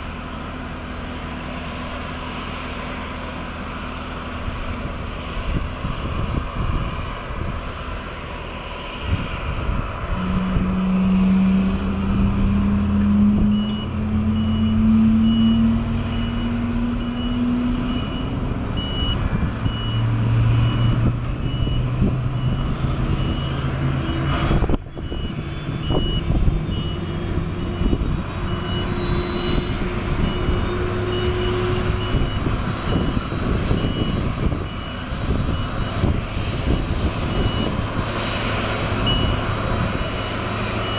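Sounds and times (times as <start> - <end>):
low engine drone: 0.0 - 40.9.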